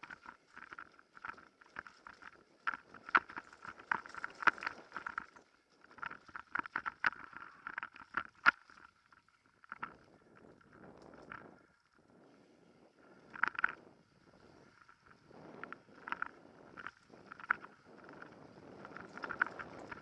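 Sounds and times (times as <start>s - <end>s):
mountain bike rattling: 0.0s - 11.9s, 12.6s - 20.0s.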